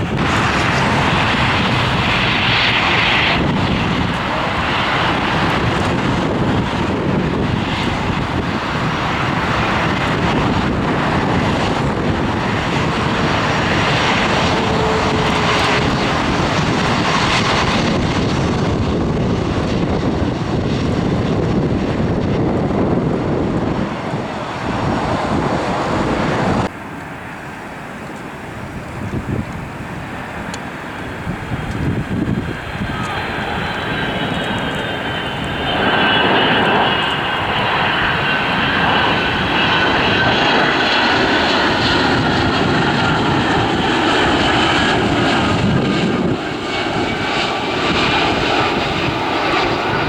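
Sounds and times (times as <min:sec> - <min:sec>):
airliner engines passing: 0:00.0 - 0:50.0.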